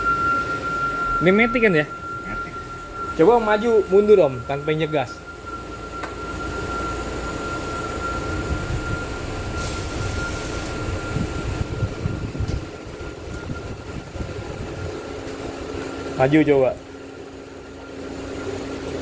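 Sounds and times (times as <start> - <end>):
car engine idling: 0.0 - 19.0
thin steady whine: 0.0 - 19.0.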